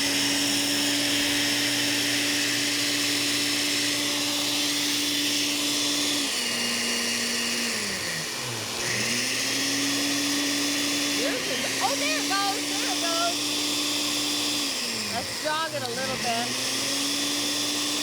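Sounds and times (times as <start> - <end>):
kitchen blender motor whine: 0.0 - 18.0.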